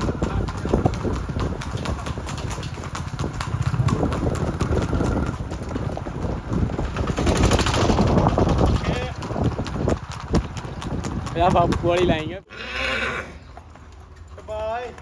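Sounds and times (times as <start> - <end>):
horse hooves galloping: 0.0 - 15.0.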